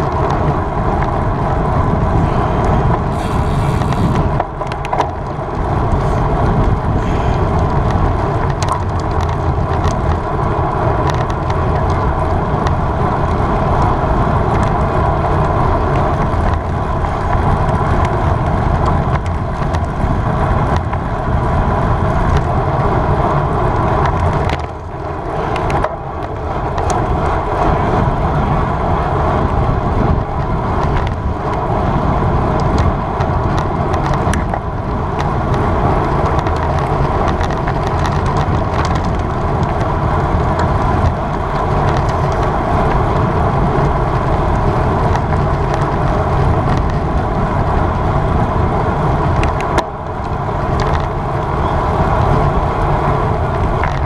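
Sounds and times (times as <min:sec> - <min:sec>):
bicycle tyre road noise: 0:00.0 - 0:54.0
wind rushing over microphone: 0:00.0 - 0:54.0.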